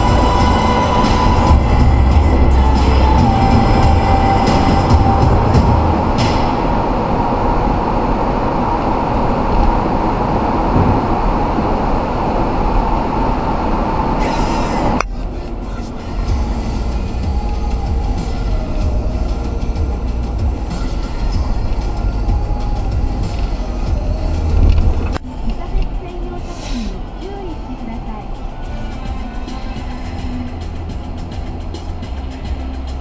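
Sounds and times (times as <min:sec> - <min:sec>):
car road noise rumble: 0:00.0 - 0:33.0.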